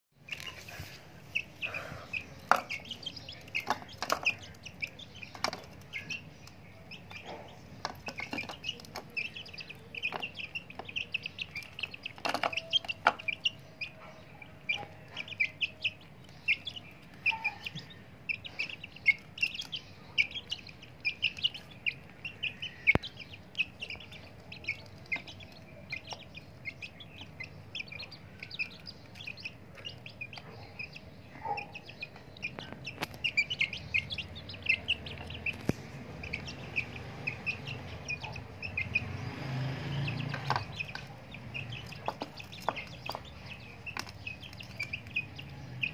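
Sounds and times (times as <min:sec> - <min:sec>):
beaks pecking at food and plate: 0:00.2 - 0:45.9
young chickens peeping: 0:00.2 - 0:45.9.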